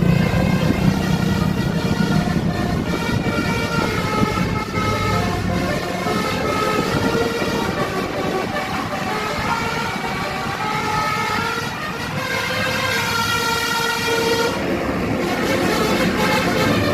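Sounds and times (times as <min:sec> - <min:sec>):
bus engine rumble: 0:00.0 - 0:16.9
multi-tone air horn melody: 0:00.0 - 0:16.9.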